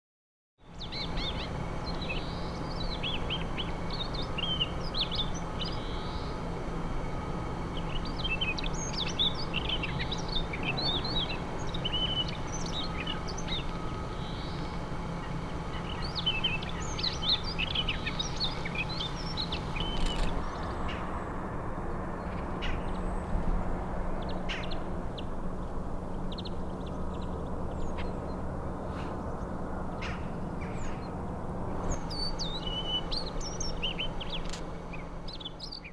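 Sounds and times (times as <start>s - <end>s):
songbirds chirping and twittering: 0.6s - 35.9s
steady low hum: 0.6s - 35.9s.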